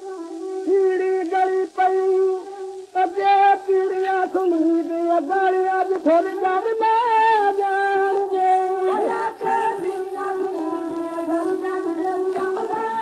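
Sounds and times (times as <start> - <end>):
old record melody with sliding pitch: 0.0 - 13.0.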